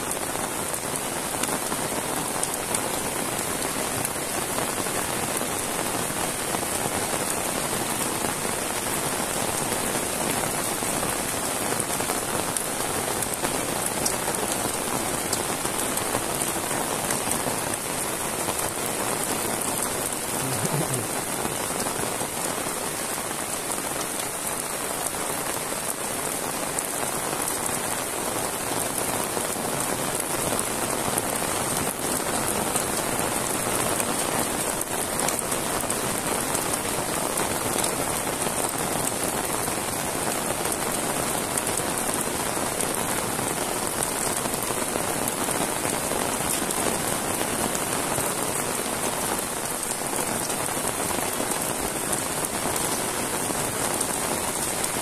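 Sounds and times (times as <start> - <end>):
heavy rain on grass and paving: 0.0 - 55.0.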